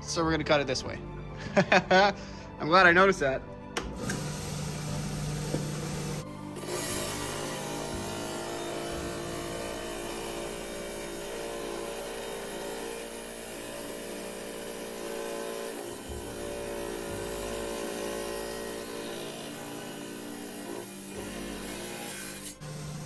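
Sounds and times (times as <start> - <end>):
trim saw motor whine: 3.8 - 23.0.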